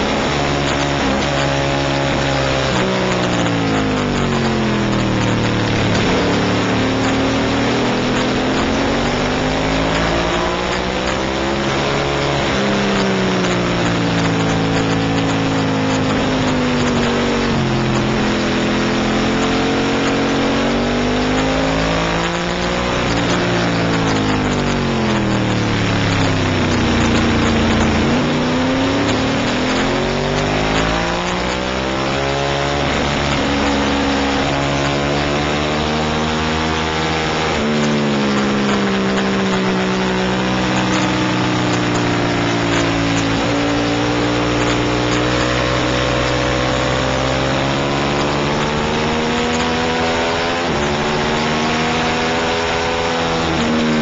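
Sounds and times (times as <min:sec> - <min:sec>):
racing motorcycle engine revving: 0:00.0 - 0:54.0.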